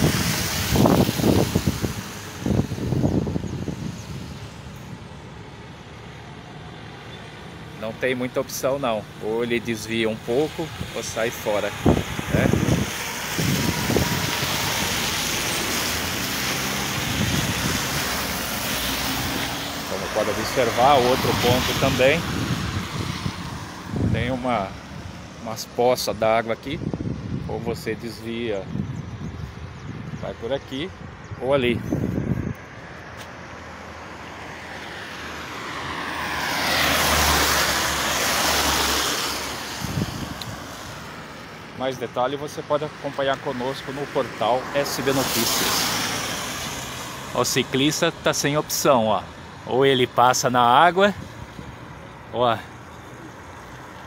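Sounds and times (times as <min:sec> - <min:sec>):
tyres hissing on wet road: 0:00.0 - 0:26.9, 0:32.6 - 0:54.0
vehicle engines: 0:00.0 - 0:54.0.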